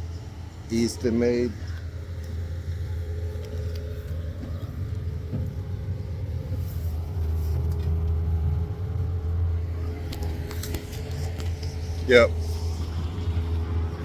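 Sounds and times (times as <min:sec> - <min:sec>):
engine rumbling: 0:00.0 - 0:14.0.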